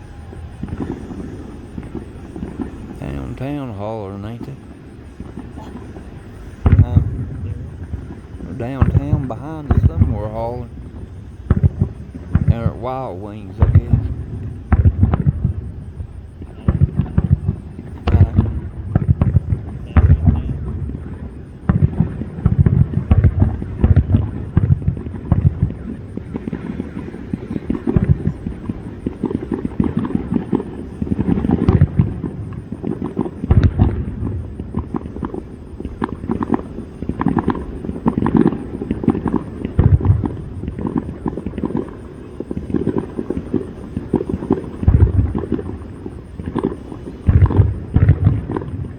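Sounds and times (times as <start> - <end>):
firework cracks: 0.0 - 48.9
firework shells booming: 0.0 - 48.9.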